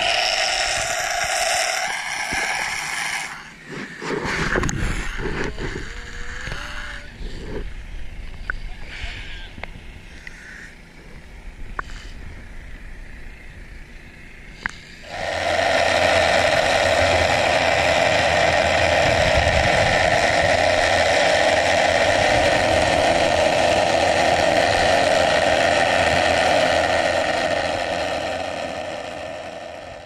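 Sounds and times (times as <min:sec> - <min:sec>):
machine noise underwater: 0:00.0 - 0:30.0.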